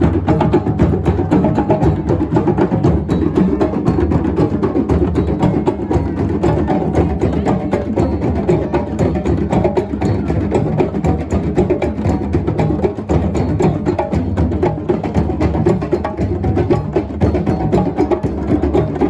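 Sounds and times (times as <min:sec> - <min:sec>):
fast drum and block percussion: 0:00.0 - 0:19.0.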